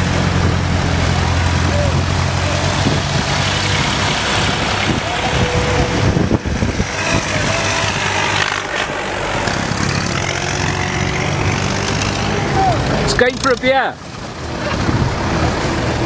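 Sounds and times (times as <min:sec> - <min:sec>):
tractor engines droning: 0:00.0 - 0:16.0.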